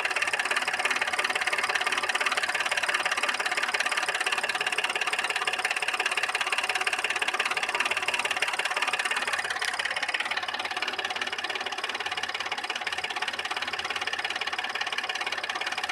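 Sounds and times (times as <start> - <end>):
car engine knocking: 0.0 - 15.9.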